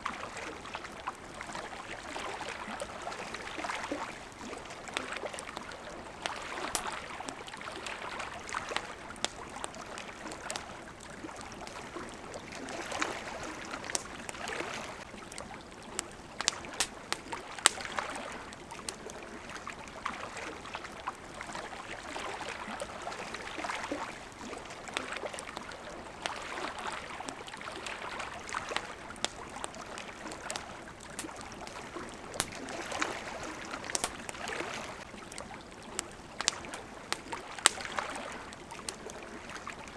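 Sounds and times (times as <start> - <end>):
water lapping: 0.0 - 39.9
campfire crackling and popping: 0.1 - 39.9.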